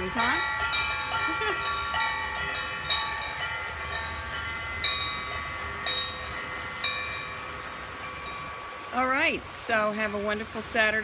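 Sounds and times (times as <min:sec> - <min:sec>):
wind chimes ringing: 0:00.0 - 0:10.4.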